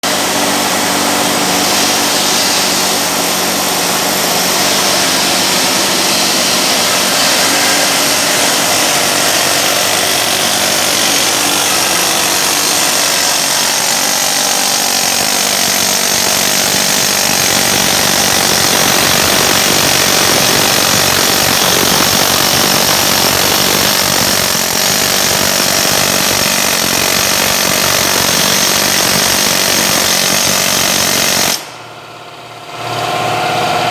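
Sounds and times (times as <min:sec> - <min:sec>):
power tool whining: 0:00.0 - 0:33.9.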